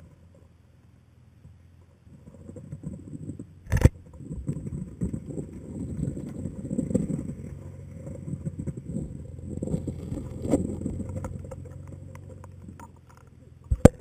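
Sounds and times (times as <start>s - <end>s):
camera rubbing and knocking on rock: 2.1s - 14.0s.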